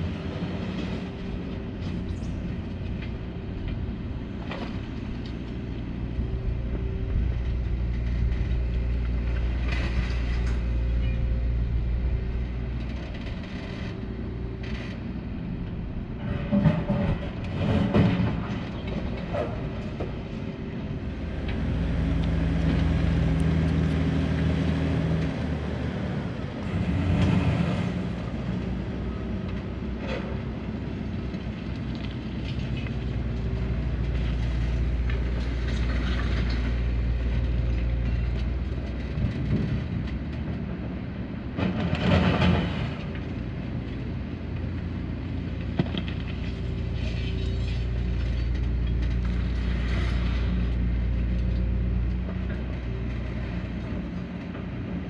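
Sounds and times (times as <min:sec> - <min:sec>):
mechanical rumble: 0:00.0 - 0:55.0.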